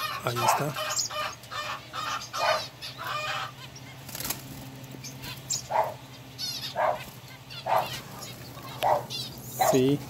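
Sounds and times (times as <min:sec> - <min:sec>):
birds clucking and chirping: 0:00.0 - 0:10.0.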